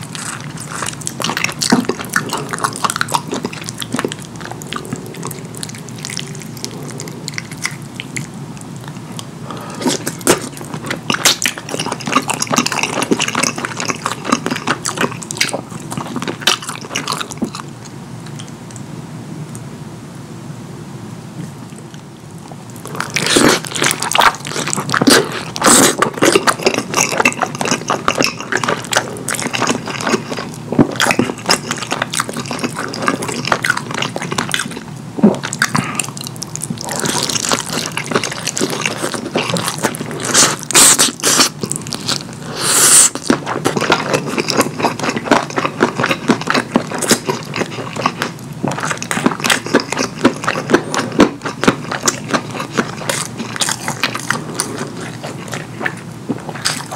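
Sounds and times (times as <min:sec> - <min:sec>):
wet chewing and smacking: 0:00.0 - 0:18.9, 0:21.4 - 0:56.9.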